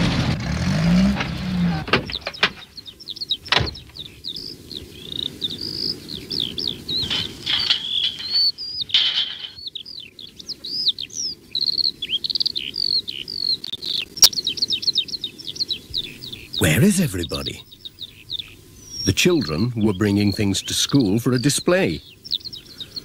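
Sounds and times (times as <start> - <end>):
songbirds chirping: 0.8 - 23.0.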